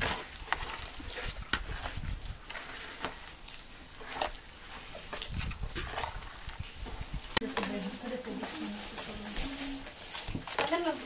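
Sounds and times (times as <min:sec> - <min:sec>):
hands squishing dough in a bowl: 0:00.0 - 0:11.0.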